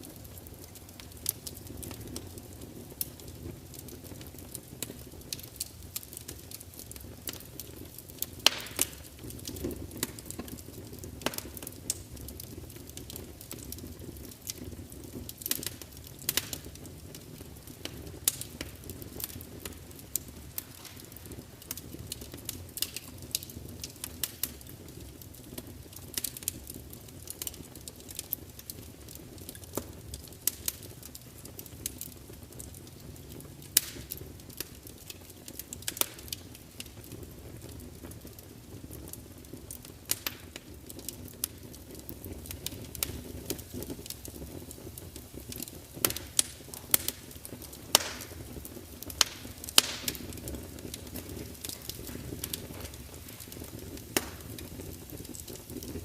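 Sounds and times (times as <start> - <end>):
burning logs crackling and popping: 0.0 - 56.0
fire flames rumbling: 0.0 - 56.0.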